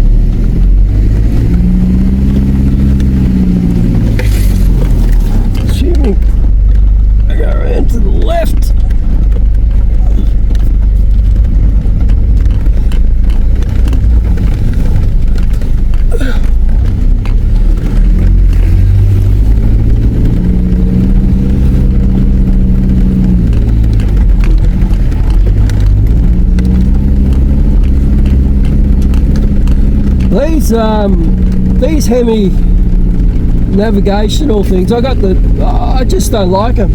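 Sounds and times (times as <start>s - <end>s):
car engine and road rumble: 0.0s - 36.9s.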